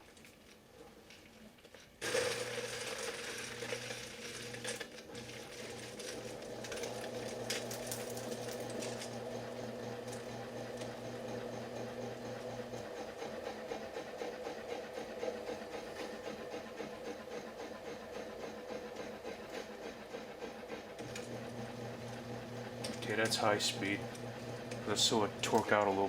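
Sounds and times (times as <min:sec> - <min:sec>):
ceiling fan motor humming: 0:03.6 - 0:26.0.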